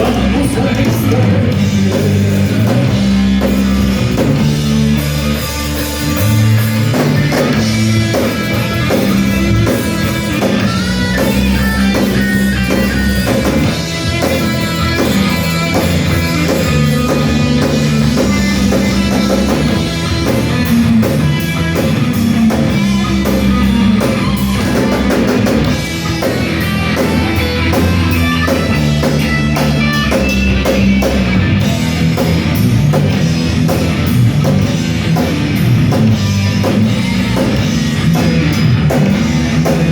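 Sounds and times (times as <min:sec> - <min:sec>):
heavy metal band playing: 0:00.0 - 0:39.9.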